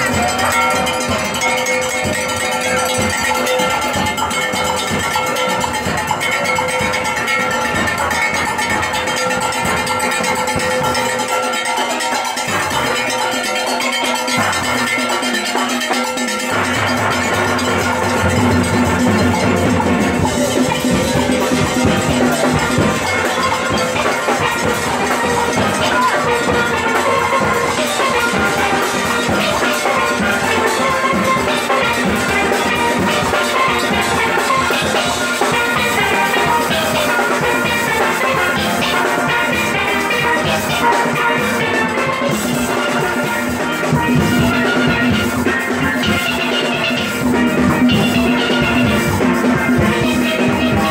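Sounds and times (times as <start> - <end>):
drums: 0.0 - 50.9
steel pans playing: 0.0 - 50.9.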